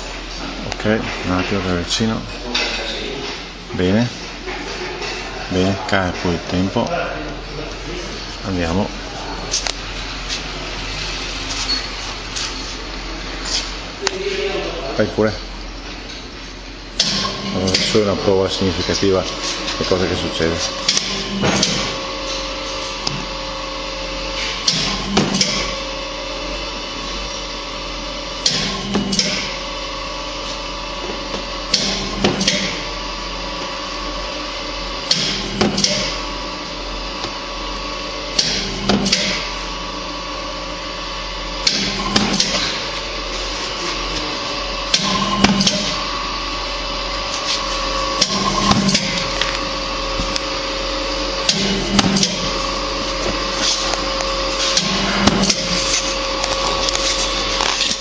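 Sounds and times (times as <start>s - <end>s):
machine motor hum: 0.0s - 58.0s.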